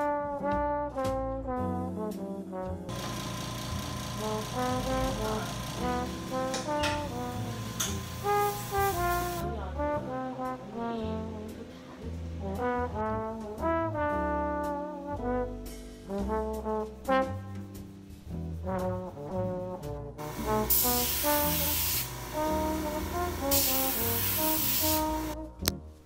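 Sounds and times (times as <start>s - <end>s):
instrumental background music: 0.0s - 3.0s, 3.8s - 26.0s.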